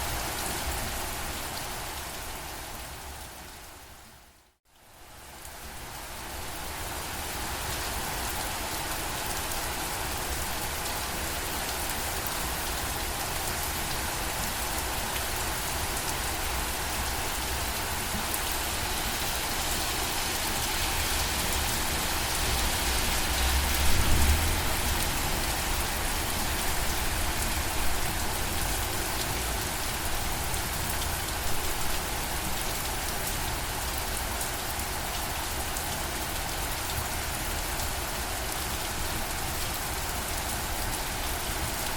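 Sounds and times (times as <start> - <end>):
steady rain patter: 0.0 - 41.9.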